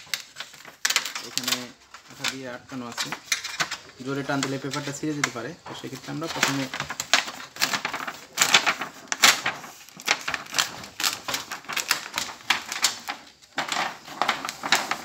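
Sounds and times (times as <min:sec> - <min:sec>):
paper sheet crackling as peeled: 0:00.0 - 0:15.0.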